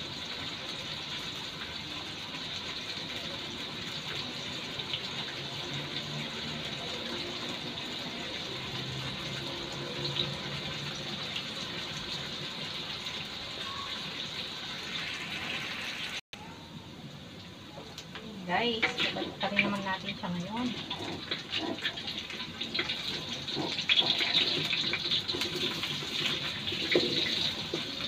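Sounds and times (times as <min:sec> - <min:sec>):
potatoes sizzling in hot oil: 0:00.0 - 0:16.2, 0:18.4 - 0:28.0.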